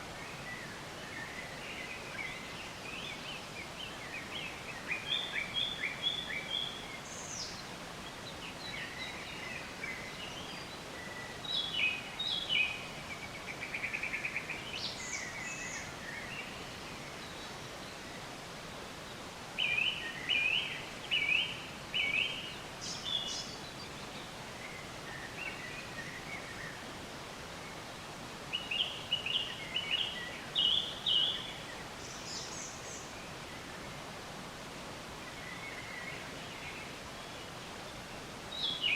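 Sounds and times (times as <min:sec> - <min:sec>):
steady background hiss: 0:00.0 - 0:38.9
songbirds chirping and singing: 0:00.3 - 0:18.3, 0:19.1 - 0:27.1, 0:27.7 - 0:33.9.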